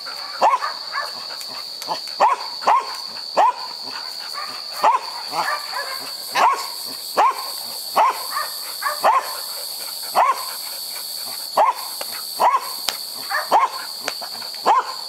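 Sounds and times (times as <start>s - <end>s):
dog barking: 0.2s - 1.3s, 1.9s - 9.5s, 10.1s - 10.5s, 11.6s - 15.0s.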